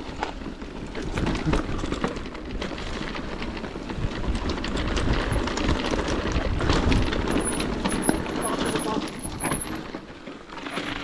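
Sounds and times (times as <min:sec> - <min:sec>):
wind rumble on microphone: 0:00.0 - 0:09.8
bike chain and frame rattling: 0:00.0 - 0:11.0
tyres on loose stones: 0:00.0 - 0:11.0.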